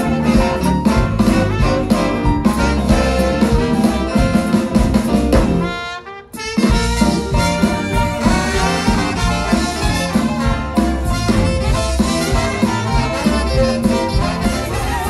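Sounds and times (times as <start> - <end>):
jazz big band playing: 0.0 - 15.0.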